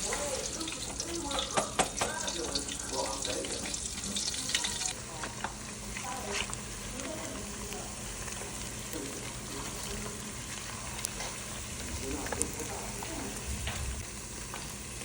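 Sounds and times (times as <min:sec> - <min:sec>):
chicken wings sizzling in oil: 0:00.0 - 0:15.0.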